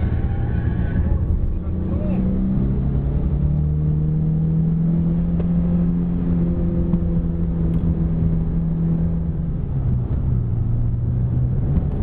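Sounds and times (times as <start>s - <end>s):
car engine pulling hard: 0.0s - 12.0s.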